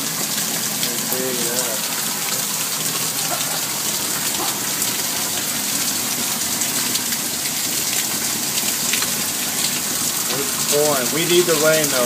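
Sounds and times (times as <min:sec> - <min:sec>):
heavy rain pouring: 0:00.0 - 0:12.0
raindrops ticking: 0:00.0 - 0:12.0.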